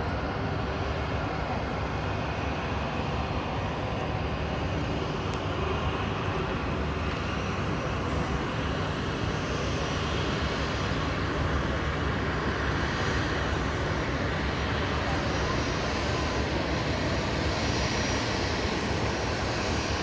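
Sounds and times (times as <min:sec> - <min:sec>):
jet engines rushing hum: 0:00.0 - 0:20.0.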